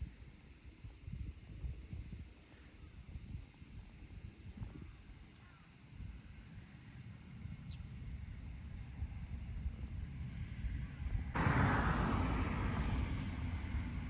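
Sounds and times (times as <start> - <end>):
wind rumbling on microphone: 0.0 - 5.2, 7.3 - 14.0.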